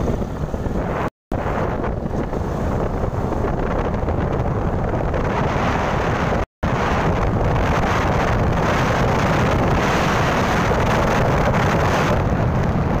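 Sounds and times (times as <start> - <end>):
motorcycle rumble: 0.0 - 13.0
wind buffeting microphone: 0.0 - 13.0.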